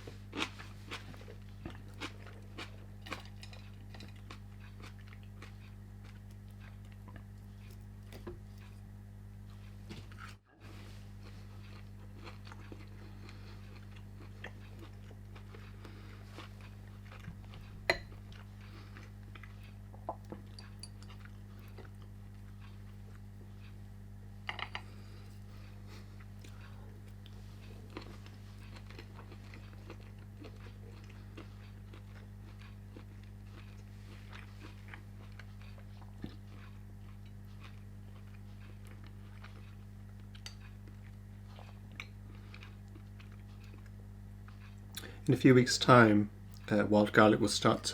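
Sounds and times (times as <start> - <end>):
person chewing food: 0.0 - 45.3
steady low hum: 0.0 - 47.9.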